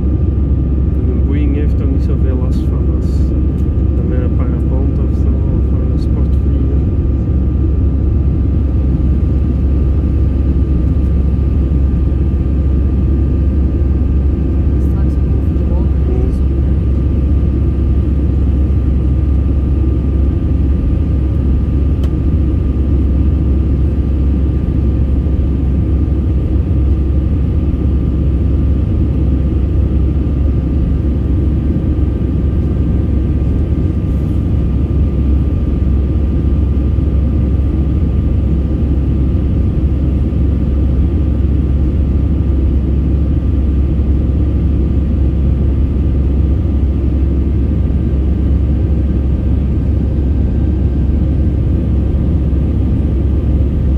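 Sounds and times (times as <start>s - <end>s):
jet engine cabin rumble: 0.0s - 53.9s.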